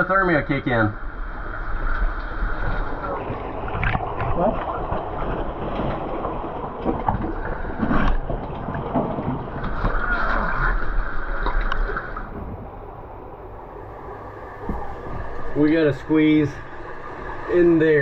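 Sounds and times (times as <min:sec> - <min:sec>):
people wading through water: 0:01.0 - 0:18.0.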